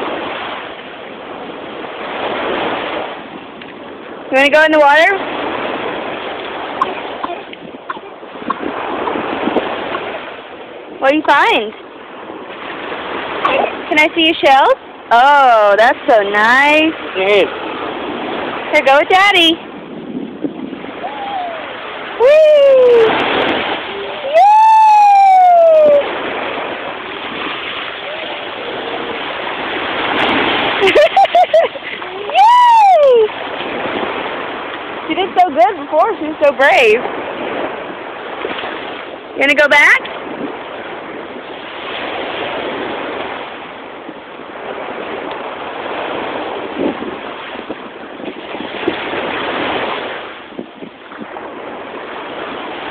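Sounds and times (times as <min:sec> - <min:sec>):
surf washing over sand: 0:00.0 - 0:52.9.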